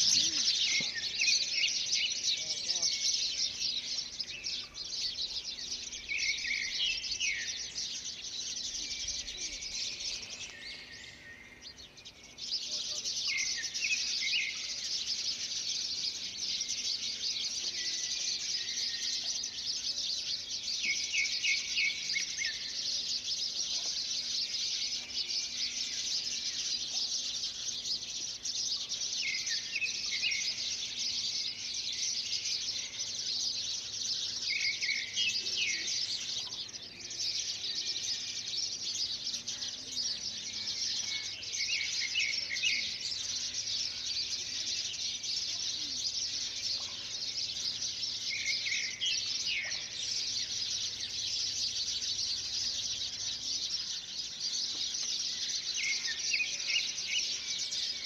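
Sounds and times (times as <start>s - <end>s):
bird chirping: 0.0s - 58.0s
insects chorus: 0.0s - 58.0s.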